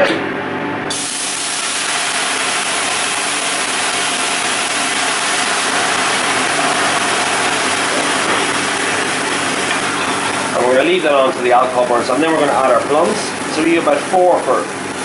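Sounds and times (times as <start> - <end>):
liquid sizzling in hot frying pan: 0.9 - 15.0.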